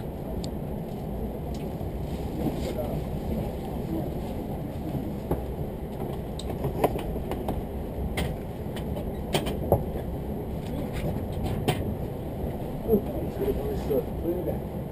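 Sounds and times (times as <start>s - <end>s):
train wheels rumbling on rails: 0.0s - 14.8s.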